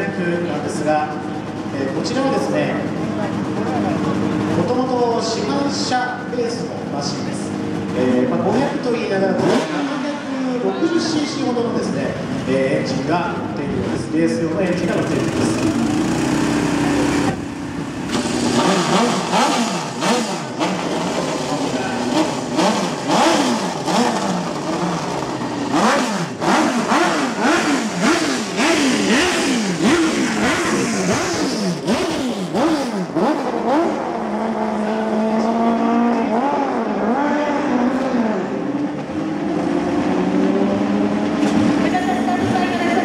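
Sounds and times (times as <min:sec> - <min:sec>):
racing motorcycle engine revving: 0:00.0 - 0:43.0.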